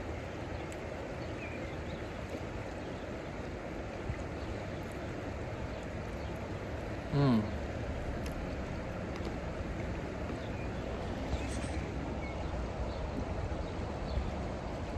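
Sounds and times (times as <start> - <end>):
steady rushing outdoor noise: 0.0 - 14.9.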